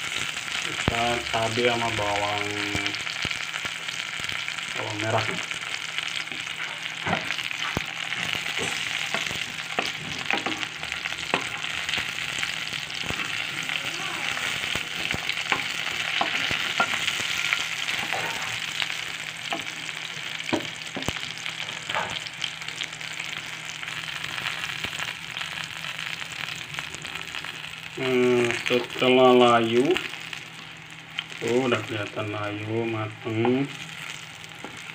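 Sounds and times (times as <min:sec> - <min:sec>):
chillies sizzling in hot oil: 0:00.0 - 0:34.9.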